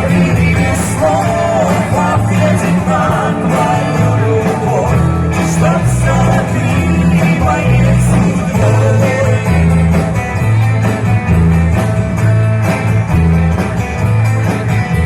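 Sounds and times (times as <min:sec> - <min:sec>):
guitar: 0:00.0 - 0:15.0
moving bass line: 0:00.0 - 0:15.0
steady drum beat: 0:00.0 - 0:15.0.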